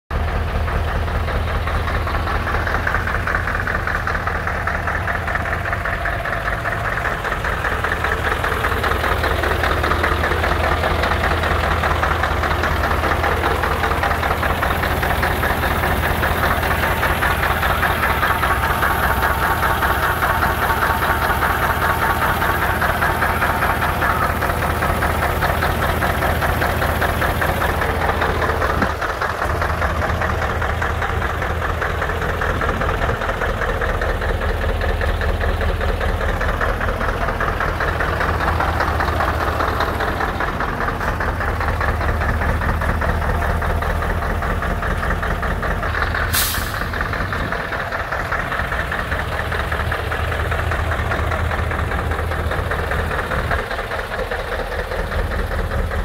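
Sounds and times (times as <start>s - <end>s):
diesel engine idling: 0.1s - 56.0s.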